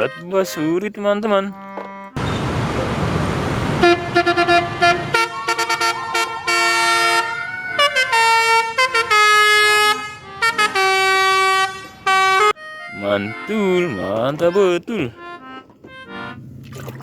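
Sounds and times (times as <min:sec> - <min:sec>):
multi-tone bus horn tune: 0:00.0 - 0:16.5.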